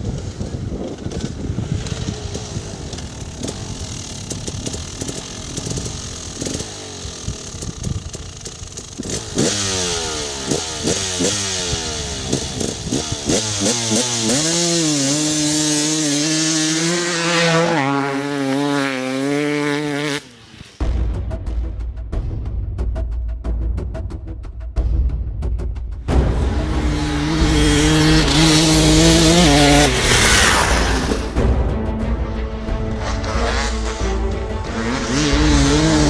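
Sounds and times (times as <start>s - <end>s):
dirt bike engine accelerating: 0.0s - 20.9s, 26.1s - 36.0s.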